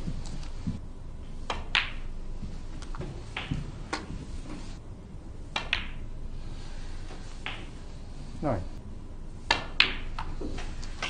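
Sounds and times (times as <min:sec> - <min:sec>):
snooker balls clicking: 0:00.0 - 0:04.8, 0:05.4 - 0:08.6, 0:09.4 - 0:11.0.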